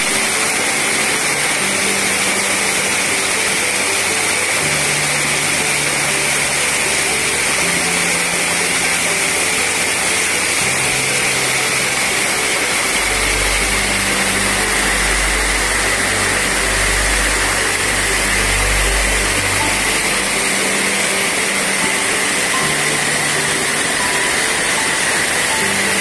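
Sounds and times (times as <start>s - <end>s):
low held music notes: 0.0s - 26.0s
pulsing bass: 0.0s - 26.0s
waterfall splashing over rocks: 0.0s - 26.0s.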